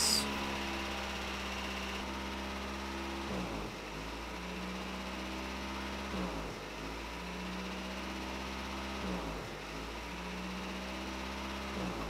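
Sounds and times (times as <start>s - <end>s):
engine idling with surging: 0.0s - 12.0s.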